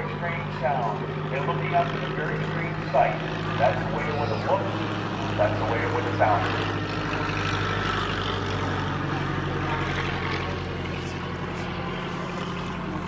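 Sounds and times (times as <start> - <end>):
biplane engine passing overhead: 0.0 - 13.0.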